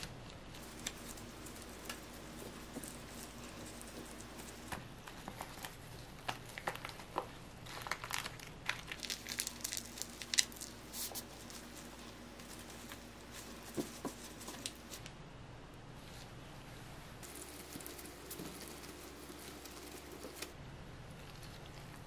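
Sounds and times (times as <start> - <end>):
seaweed and gloves crinkling: 0.6 - 15.1, 17.2 - 20.6.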